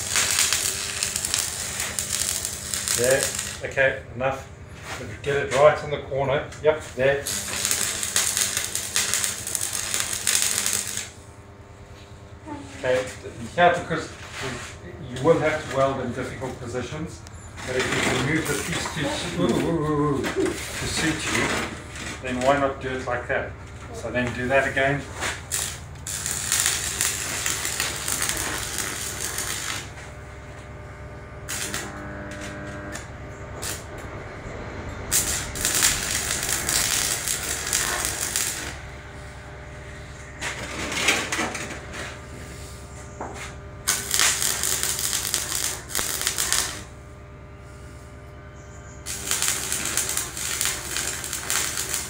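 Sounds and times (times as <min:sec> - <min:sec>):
welding arc crackling: 0:00.0 - 0:05.9, 0:06.8 - 0:52.0.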